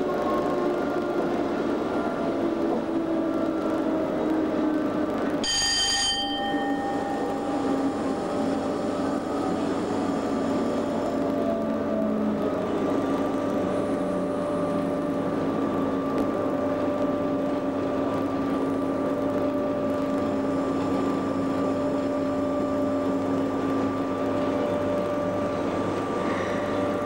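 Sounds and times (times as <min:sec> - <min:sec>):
locomotive cab hum with tones: 0:00.0 - 0:27.0
train wheels on track: 0:00.0 - 0:27.0.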